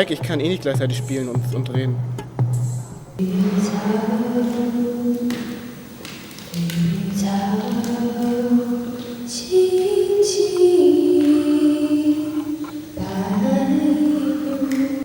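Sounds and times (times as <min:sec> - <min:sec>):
slow music of long held notes: 0:00.0 - 0:15.0.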